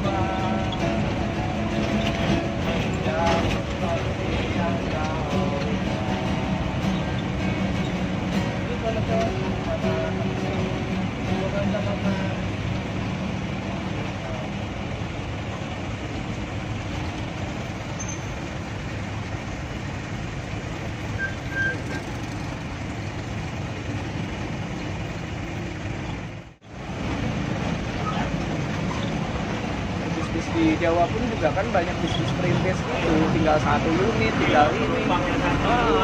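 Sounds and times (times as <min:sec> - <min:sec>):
diesel engine running: 0:00.0 - 0:36.0
road noise rumble: 0:00.0 - 0:36.0.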